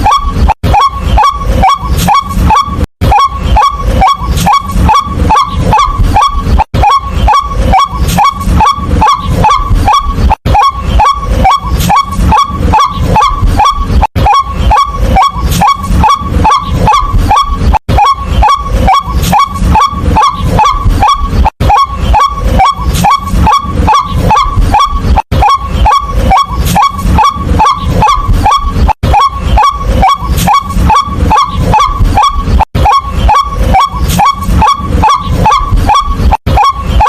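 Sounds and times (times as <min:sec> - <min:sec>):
bird calling short kwak notes: 0:00.0 - 0:37.0.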